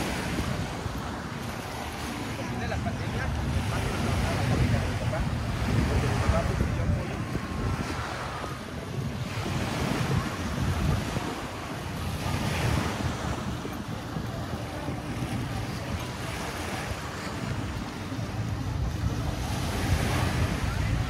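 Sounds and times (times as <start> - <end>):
waves washing onto beach: 0.0 - 21.0
wind rumbling on microphone: 0.0 - 21.0.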